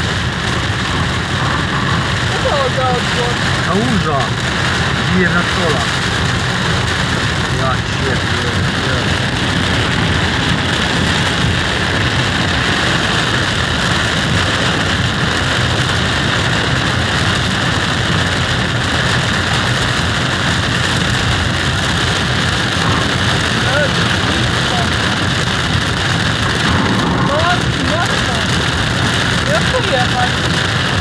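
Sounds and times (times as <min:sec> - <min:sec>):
heavy rain drumming on car roof: 0:00.0 - 0:31.0
low rumble of car driving: 0:00.0 - 0:31.0.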